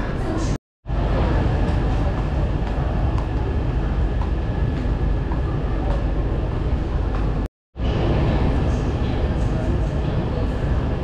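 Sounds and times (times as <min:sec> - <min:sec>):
metro train rumble: 0:00.0 - 0:11.0.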